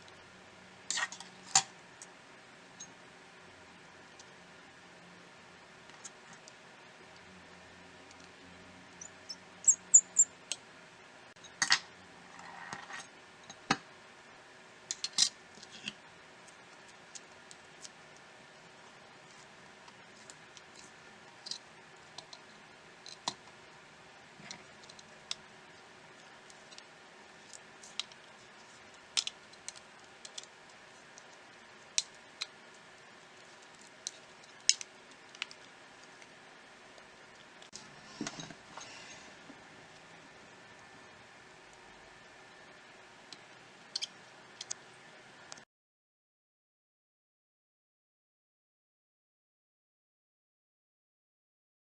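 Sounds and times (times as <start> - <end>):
faint steady hum: 0.0 - 45.6.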